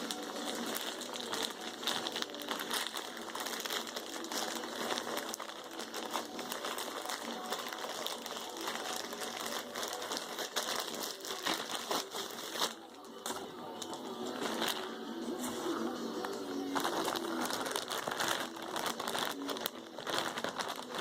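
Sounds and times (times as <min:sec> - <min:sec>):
bag crinkling and rustling: 0:00.0 - 0:21.0.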